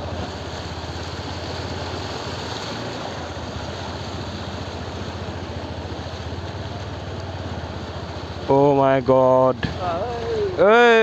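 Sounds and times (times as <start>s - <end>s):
motorcycle engine running: 0.0s - 8.9s
water rushing: 0.0s - 11.0s.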